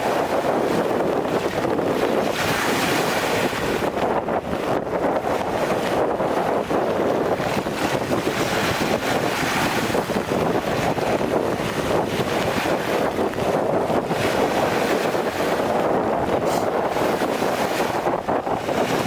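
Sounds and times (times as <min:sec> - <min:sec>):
strong wind buffeting microphone: 0:00.0 - 0:19.0
waves on shore: 0:00.0 - 0:19.0.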